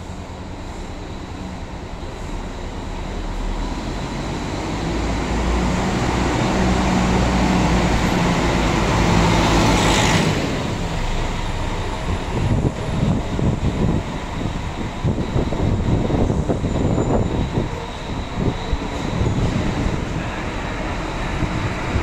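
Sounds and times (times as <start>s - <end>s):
diesel bus engine passing: 0.0s - 22.0s.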